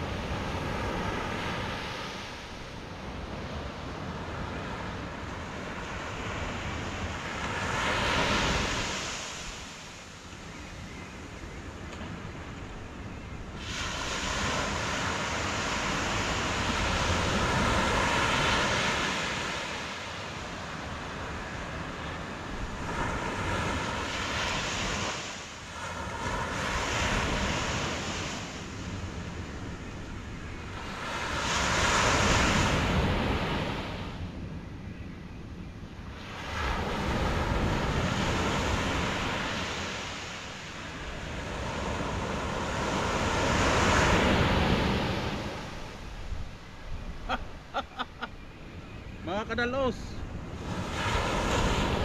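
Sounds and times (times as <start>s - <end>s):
sea waves washing in: 0.0s - 10.6s, 11.2s - 34.4s, 36.0s - 48.4s, 49.2s - 52.0s.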